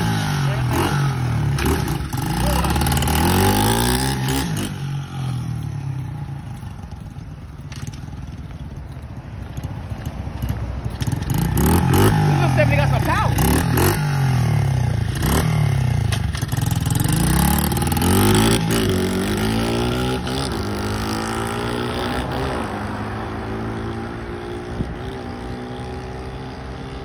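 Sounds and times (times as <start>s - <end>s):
motorbike engine revving: 0.0s - 8.2s, 9.6s - 27.0s.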